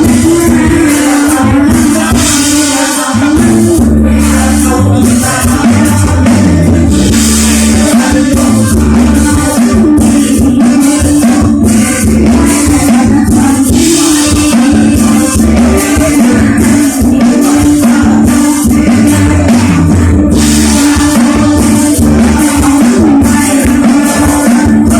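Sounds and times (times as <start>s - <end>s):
music over loudspeakers: 0.0s - 24.9s
rattling high percussion: 0.0s - 24.9s
steady bass line: 0.0s - 24.9s
woman singing: 0.0s - 24.9s.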